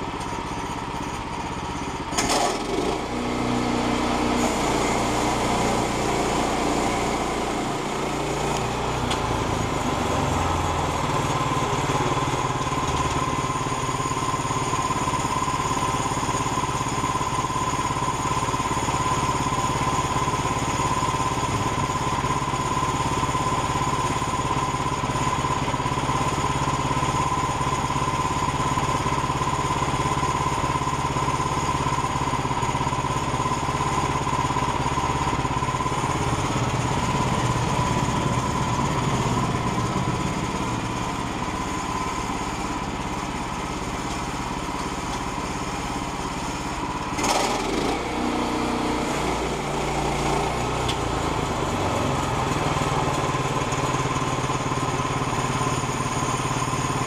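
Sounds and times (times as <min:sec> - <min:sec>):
engine running steadily: 0:00.0 - 0:57.0
bandsaw mill cutting log: 0:01.7 - 0:57.0.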